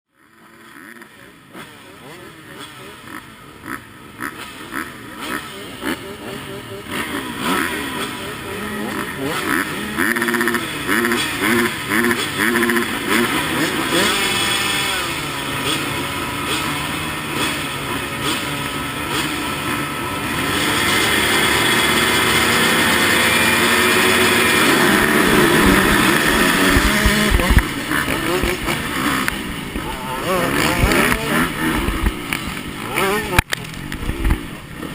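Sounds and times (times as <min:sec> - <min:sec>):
motocross engines revving: 0:00.2 - 0:34.9.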